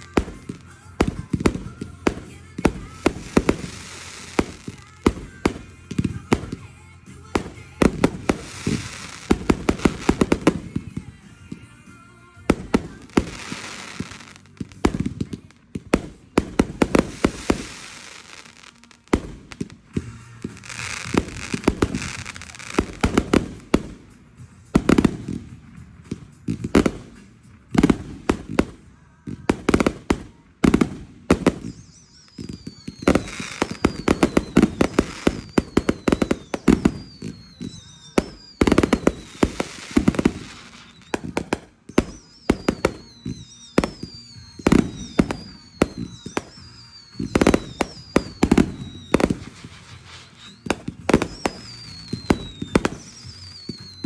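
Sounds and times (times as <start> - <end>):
fireworks crackling: 0.0 - 54.0
fireworks popping and banging: 0.0 - 54.0.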